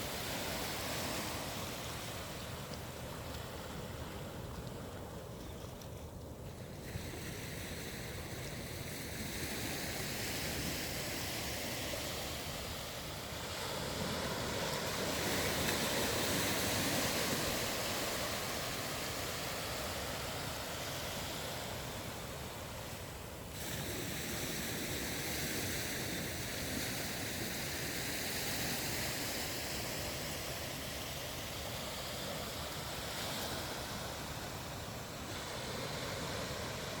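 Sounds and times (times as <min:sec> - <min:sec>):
ocean surf breaking on beach: 0:00.0 - 0:05.6, 0:06.6 - 0:37.0.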